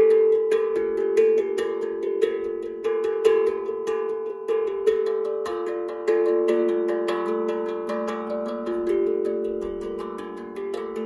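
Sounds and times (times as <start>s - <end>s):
steel tongue drum melody: 0.0s - 11.0s.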